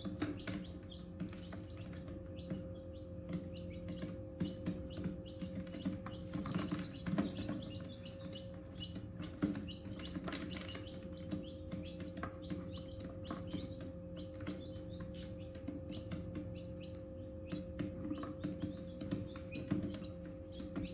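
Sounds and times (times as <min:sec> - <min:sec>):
chicks peeping: 0:00.0 - 0:20.9
incubator hum: 0:00.0 - 0:20.9.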